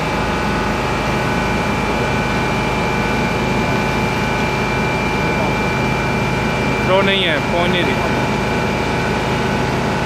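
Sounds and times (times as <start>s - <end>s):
engine and water pump rushing: 0.0s - 10.0s
high whine: 0.0s - 10.0s.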